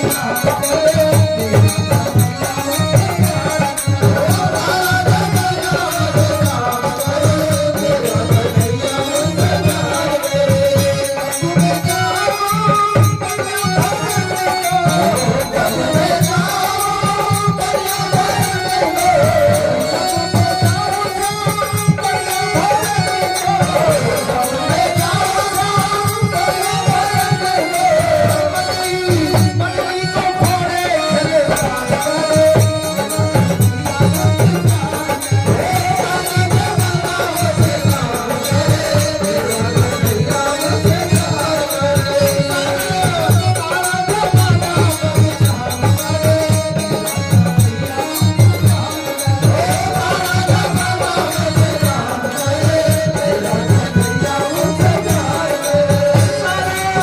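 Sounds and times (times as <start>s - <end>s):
rattle percussion: 0.0s - 57.0s.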